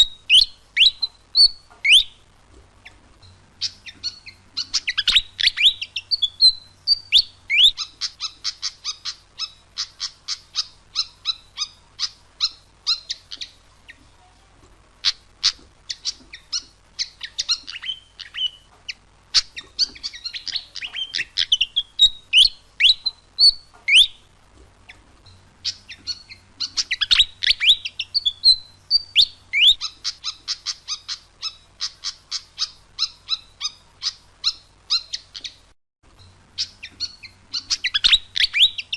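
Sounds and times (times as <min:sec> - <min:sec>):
bird song rapid squeaky chirps: 0:00.0 - 0:14.0, 0:15.0 - 0:24.3, 0:25.3 - 0:38.9.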